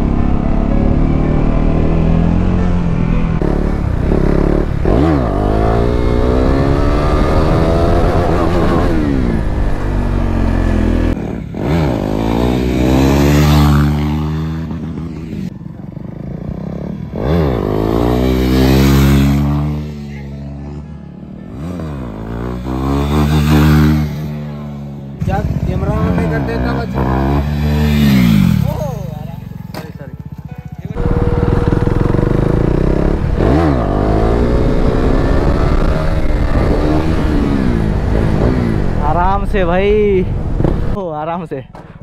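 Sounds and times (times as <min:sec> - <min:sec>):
motorcycle engine revving: 0:00.0 - 0:41.0
motorcycles passing by: 0:00.0 - 0:41.0.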